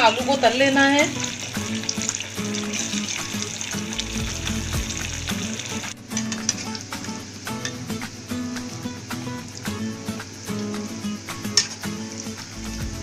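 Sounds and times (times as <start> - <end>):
oil sizzling and bubbling: 0.0 - 13.0.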